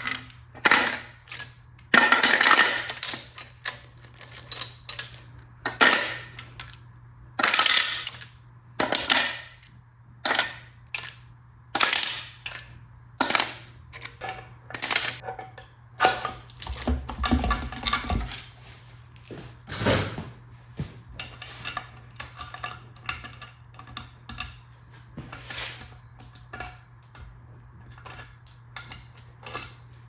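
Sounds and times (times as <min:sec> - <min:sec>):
metal tools clinking: 0:00.0 - 0:18.5, 0:21.2 - 0:30.0.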